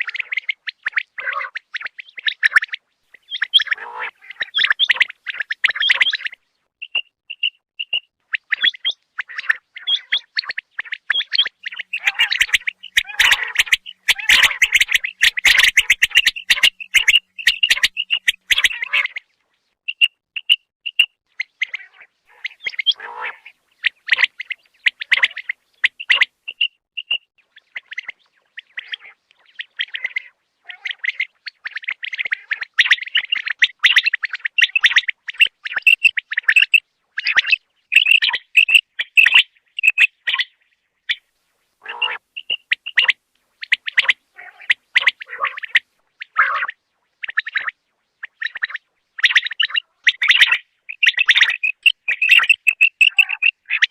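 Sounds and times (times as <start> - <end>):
quail chirping calls: 0.0 - 19.3, 19.9 - 53.9.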